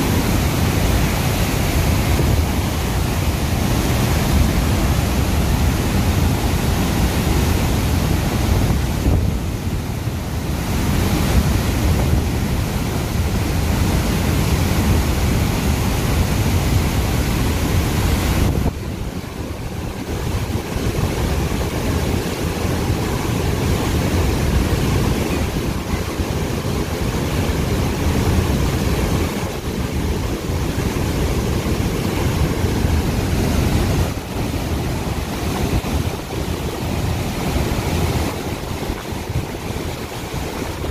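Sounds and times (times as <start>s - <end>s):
water rushing through spillway: 0.0s - 40.9s.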